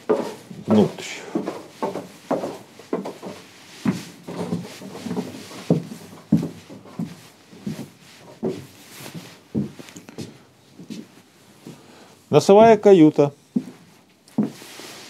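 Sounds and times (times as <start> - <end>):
footsteps on wooden floor: 0.0 - 11.9, 12.5 - 12.9, 13.5 - 15.0.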